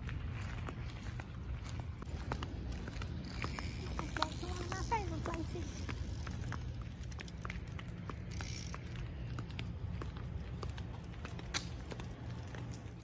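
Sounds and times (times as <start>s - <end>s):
footsteps clicking: 0.0s - 13.0s
wind rumble on microphone: 0.0s - 13.0s.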